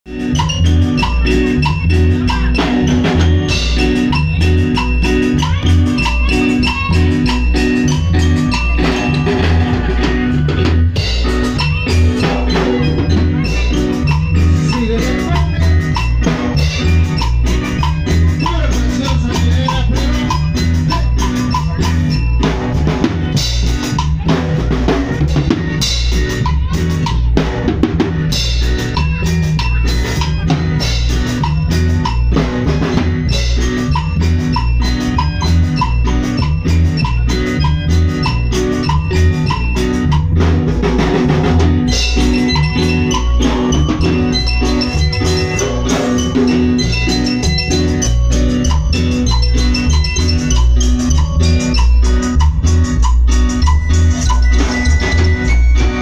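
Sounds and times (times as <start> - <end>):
drum kit: 0.0 - 56.0
live band playing: 0.0 - 56.0
repeating bass line: 0.0 - 56.0.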